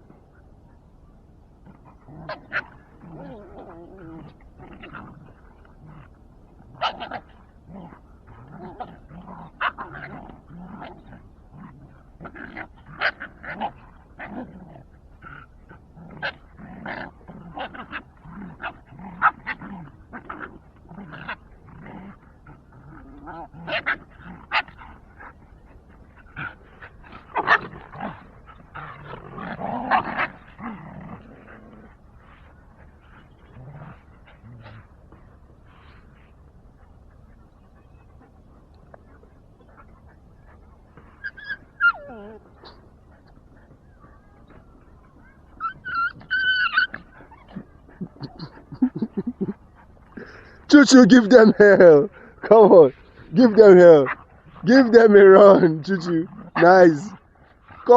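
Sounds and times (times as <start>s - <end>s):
dogs growling: 1.6s - 57.9s
dogs barking and yelping: 6.6s - 57.9s.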